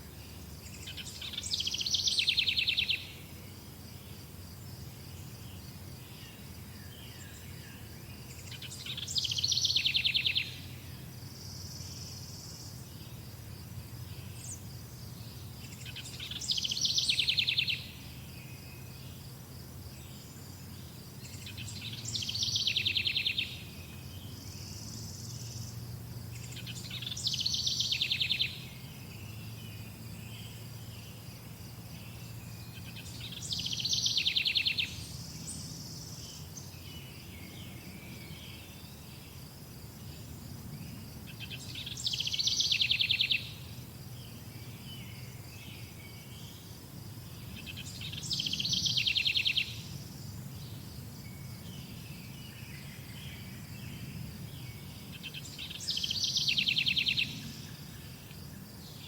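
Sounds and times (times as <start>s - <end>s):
songbird singing with fast trill: 0.1s - 3.4s, 5.0s - 13.3s, 14.0s - 19.2s, 19.9s - 39.3s, 40.9s - 58.2s
steady high insect buzz: 0.2s - 59.0s.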